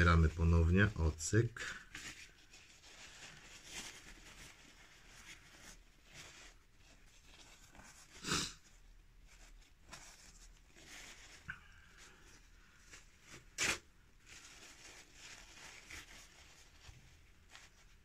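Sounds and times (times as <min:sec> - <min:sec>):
faint soft rustles: 0:00.0 - 0:18.0.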